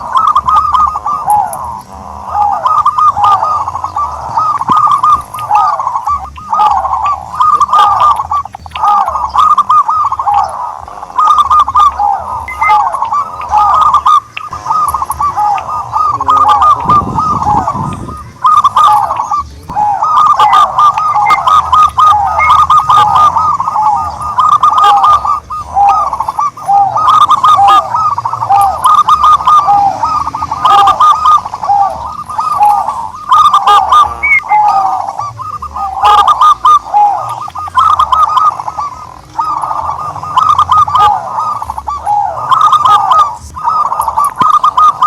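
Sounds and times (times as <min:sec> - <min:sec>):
dove calling: 0:00.0 - 0:45.0.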